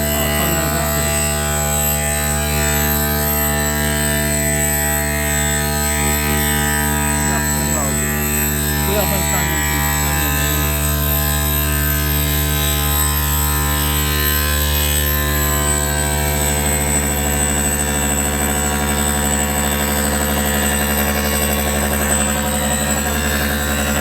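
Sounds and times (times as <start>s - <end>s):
machine electric hum and whine: 0.0s - 24.0s
thin high-pitched whine: 0.0s - 24.0s.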